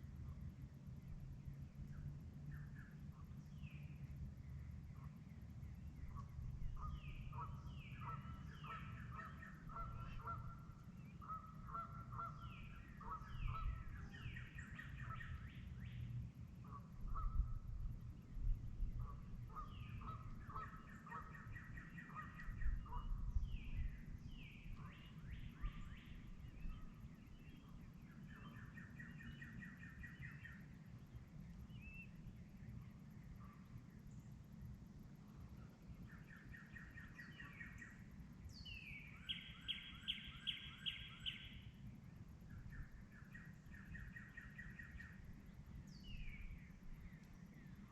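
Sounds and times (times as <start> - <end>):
birds calling and singing: 1.9 - 16.2, 18.8 - 32.7, 36.0 - 41.8, 42.5 - 47.9.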